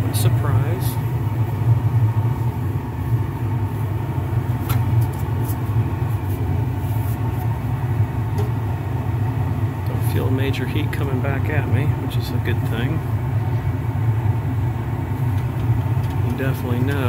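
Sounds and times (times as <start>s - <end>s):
gas furnace burner rumble: 0.0s - 17.0s.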